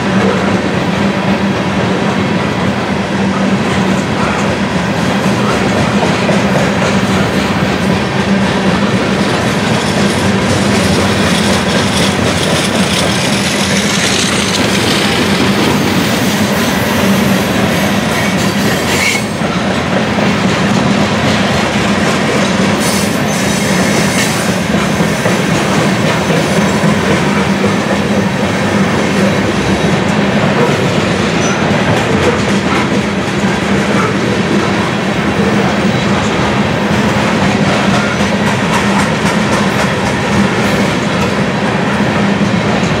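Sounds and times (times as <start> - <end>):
freight train wheels rolling: 0.0 - 43.0.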